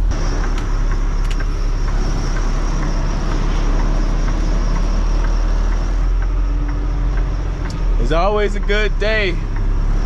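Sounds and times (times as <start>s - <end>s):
diesel truck engine rumble: 0.0s - 10.0s.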